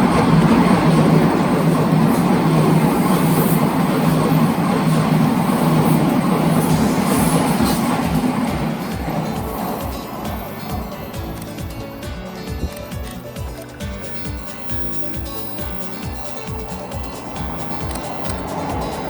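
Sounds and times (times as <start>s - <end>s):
electric train running past: 0.0s - 19.0s
wheels on rail: 0.0s - 19.0s.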